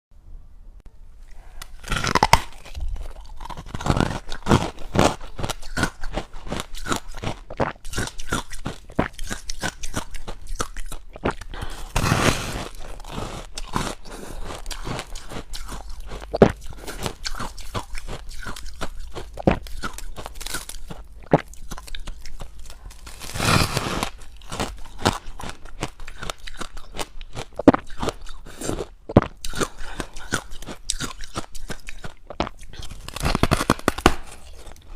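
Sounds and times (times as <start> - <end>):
person crunching ice: 1.6 - 34.9.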